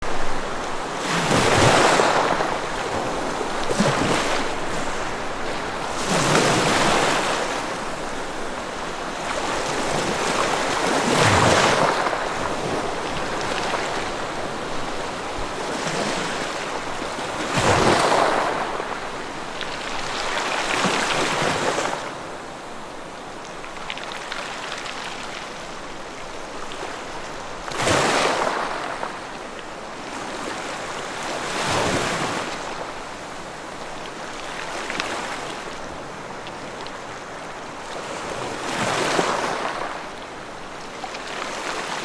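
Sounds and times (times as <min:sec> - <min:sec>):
ocean waves breaking on shore: 0:00.0 - 0:42.0.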